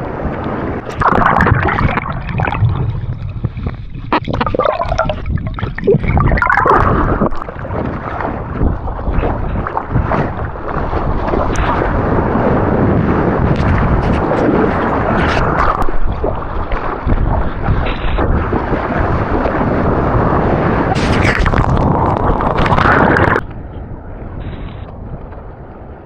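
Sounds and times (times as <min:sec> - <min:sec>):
churning ocean water: 0:00.0 - 0:26.0
dull wash of water: 0:00.0 - 0:26.0
wind buffeting microphone: 0:00.0 - 0:26.0.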